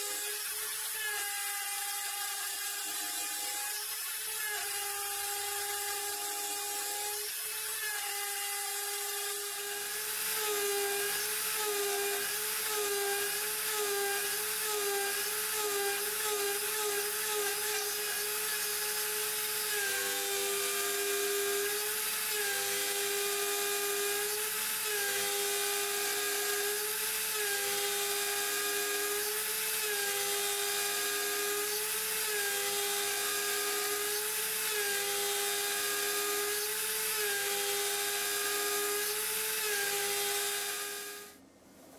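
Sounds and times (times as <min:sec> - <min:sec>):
router spindle whining: 0:00.0 - 0:41.4.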